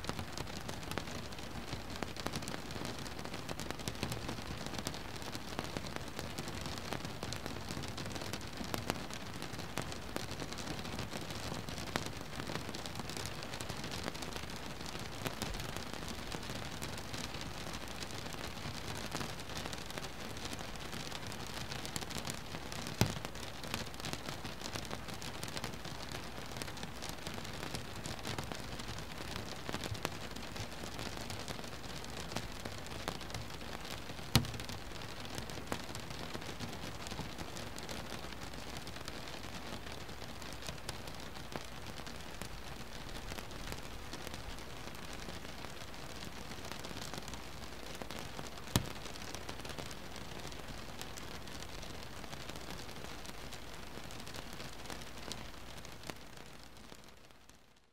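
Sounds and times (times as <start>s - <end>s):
rain patter on boat: 0.0s - 57.9s.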